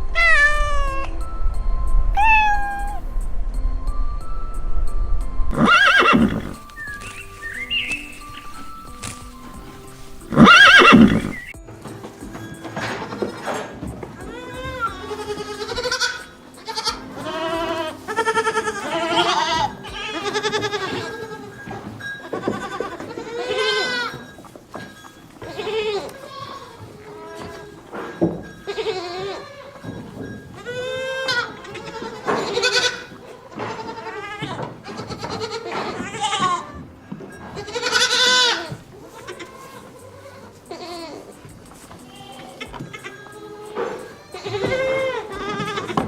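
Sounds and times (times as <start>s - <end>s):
goats bleating: 2.2s - 3.0s, 5.5s - 11.6s, 12.7s - 46.0s.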